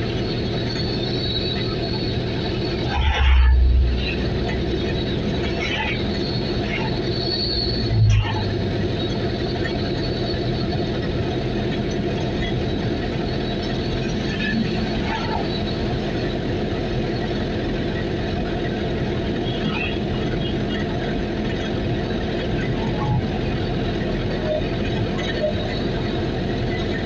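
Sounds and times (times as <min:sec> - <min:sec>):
road noise: 0:00.0 - 0:27.0
vehicle engine drone: 0:00.0 - 0:27.0.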